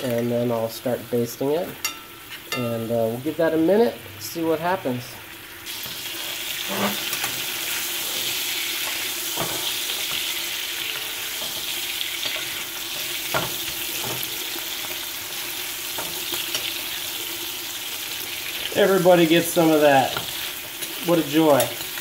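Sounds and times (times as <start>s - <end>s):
steaks sizzling in a pan: 0.0s - 22.0s.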